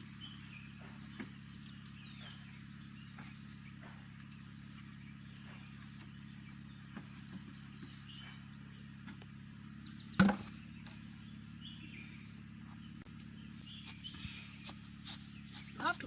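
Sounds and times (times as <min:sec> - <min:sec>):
faint bird chirps: 0:00.0 - 0:16.0
steady low hum: 0:00.0 - 0:16.0.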